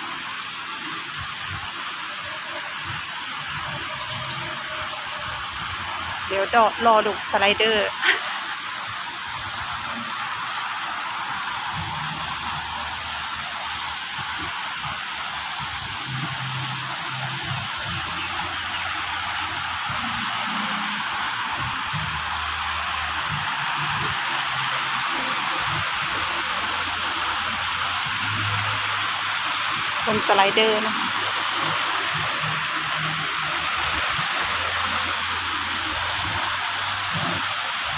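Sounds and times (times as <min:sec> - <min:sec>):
water rushing and splashing: 0:00.0 - 0:37.9.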